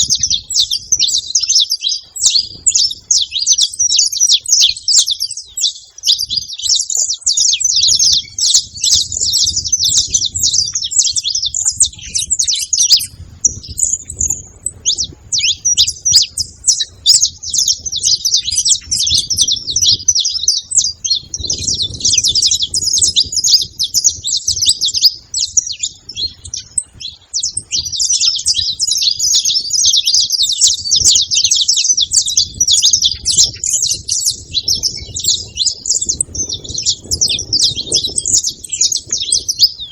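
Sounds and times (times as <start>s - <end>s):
finches singing and chirping: 0.0s - 39.9s.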